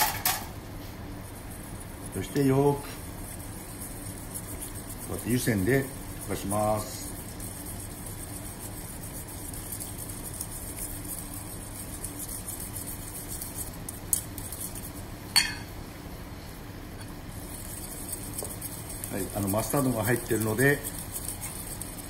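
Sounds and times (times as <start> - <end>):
whisk scraping metal bowl: 1.1 - 15.1, 17.3 - 22.0
whisk clinking against metal bowl: 1.4 - 15.7, 17.3 - 22.0.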